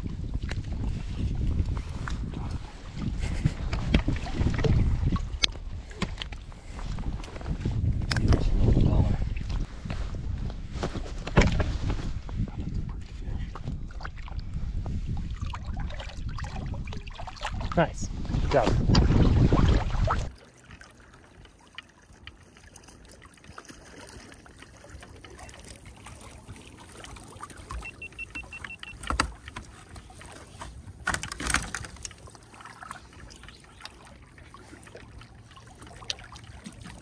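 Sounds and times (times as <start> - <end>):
water lapping against wader: 0.0 - 10.5, 11.4 - 37.0
water splashes: 0.2 - 9.8, 11.4 - 37.0.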